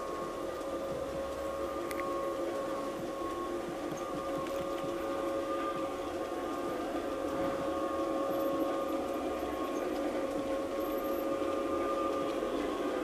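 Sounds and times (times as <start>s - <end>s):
model train motor whine: 0.0s - 13.0s
wheels rumbling on track: 0.0s - 13.0s.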